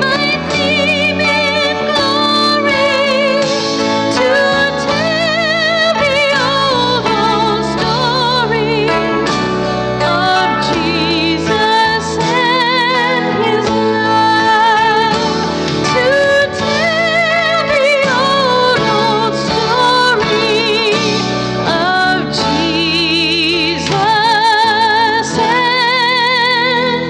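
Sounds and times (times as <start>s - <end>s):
woman singing with vibrato: 0.0s - 27.0s.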